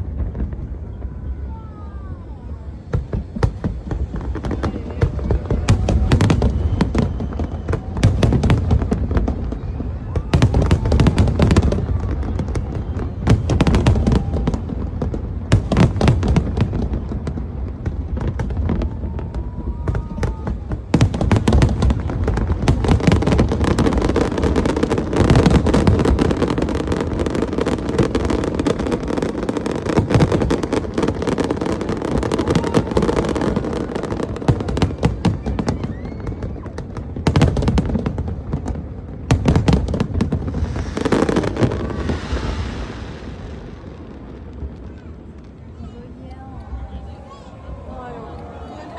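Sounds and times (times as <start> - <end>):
fireworks bursting with crackle: 0.0 - 47.5.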